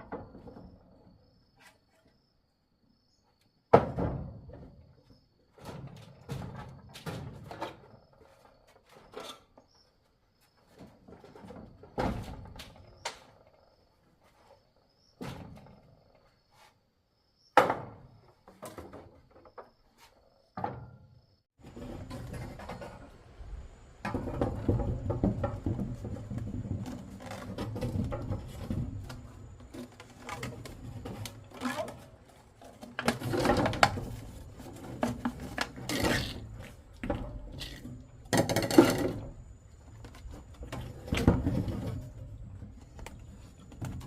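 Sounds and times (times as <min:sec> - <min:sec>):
objects knocking and thudding: 0:03.7 - 0:09.8, 0:10.4 - 0:13.5, 0:14.2 - 0:16.2, 0:17.5 - 0:44.0.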